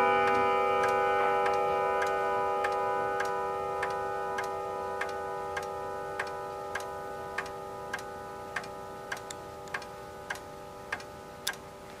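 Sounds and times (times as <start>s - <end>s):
clock chimes ringing: 0.0s - 11.8s
clock ticking: 0.0s - 12.0s.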